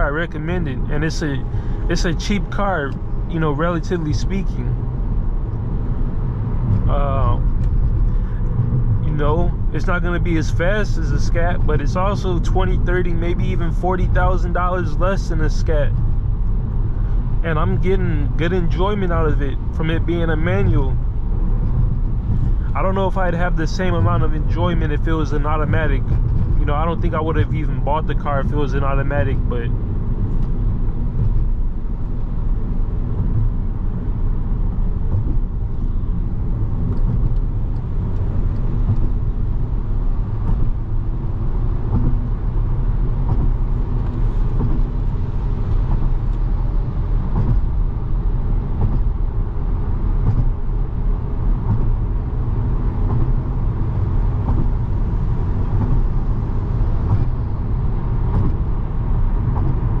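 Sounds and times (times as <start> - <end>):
car engine drone and road rumble: 0.0 - 60.0.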